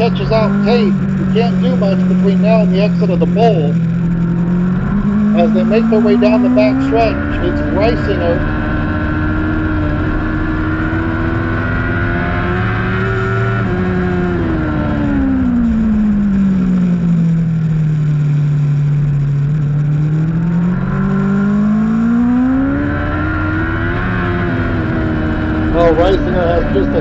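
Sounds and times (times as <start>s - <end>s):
racing motorcycle engine: 0.0s - 27.0s.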